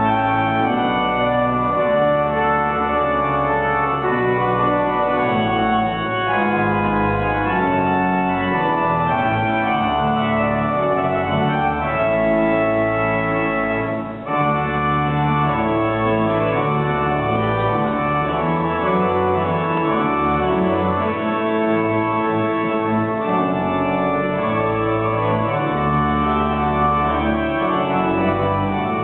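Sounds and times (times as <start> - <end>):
pipe organ playing chords: 0.0 - 29.0.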